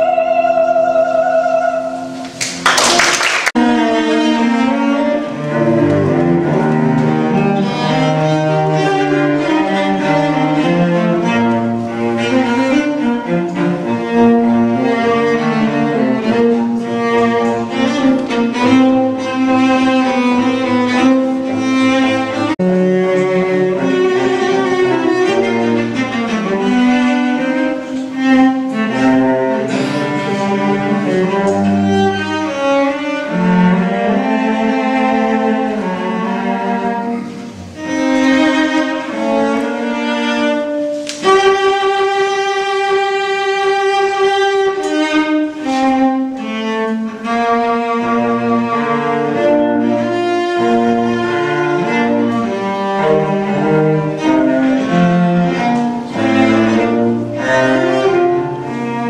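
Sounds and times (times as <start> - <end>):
cello melody: 0.0 - 59.0.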